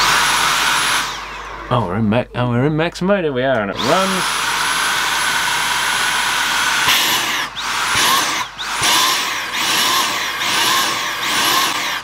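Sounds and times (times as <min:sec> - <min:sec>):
vacuum cleaner pulsing whine: 0:00.0 - 0:01.9, 0:03.6 - 0:12.0.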